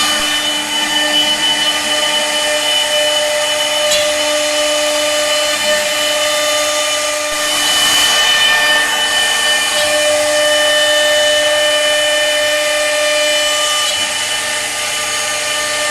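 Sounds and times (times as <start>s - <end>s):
router bit cutting wood: 0.0s - 15.9s
router spindle whine: 0.0s - 15.9s.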